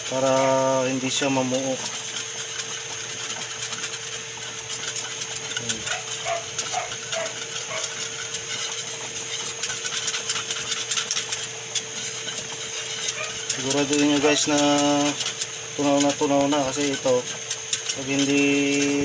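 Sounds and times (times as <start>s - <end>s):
whisk clicking against bowl: 0.0s - 19.0s.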